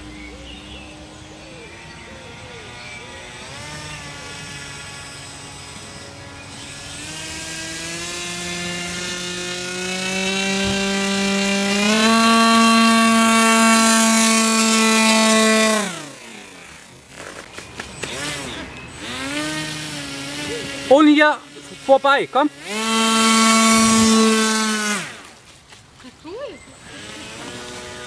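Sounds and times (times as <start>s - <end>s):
model boat motor whining: 0.0s - 25.4s, 26.7s - 28.0s.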